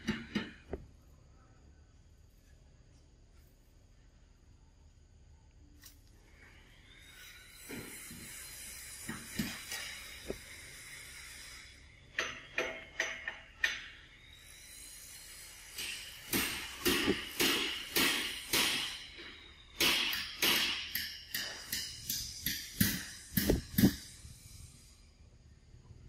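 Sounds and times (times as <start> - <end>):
faint high whine: 0.0 - 20.4, 21.2 - 26.0.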